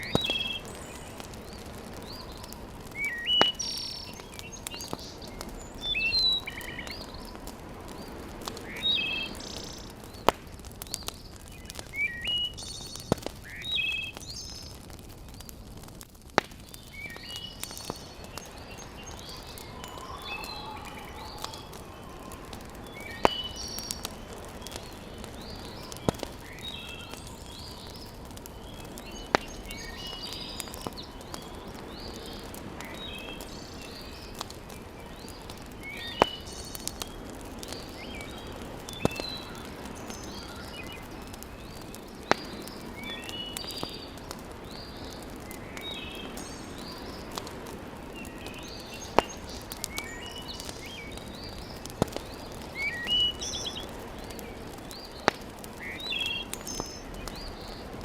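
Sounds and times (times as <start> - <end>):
birds chirping: 0.0 - 15.6, 16.2 - 58.0
fire popping: 0.0 - 58.0
wood fire crackling: 0.0 - 58.0.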